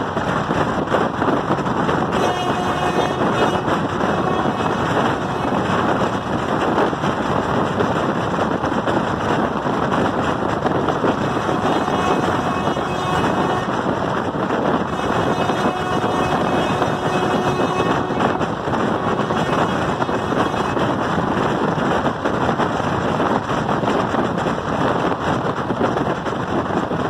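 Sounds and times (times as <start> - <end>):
rushing wind: 0.0 - 27.0
train wheels rumbling on rails: 0.0 - 27.0.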